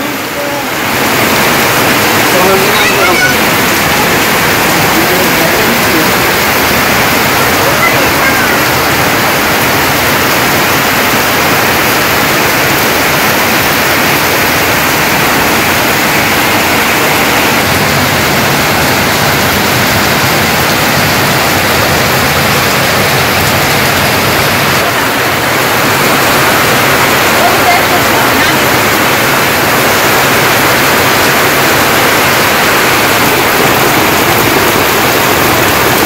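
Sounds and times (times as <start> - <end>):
heavy rain on tin roofs: 0.0 - 36.0.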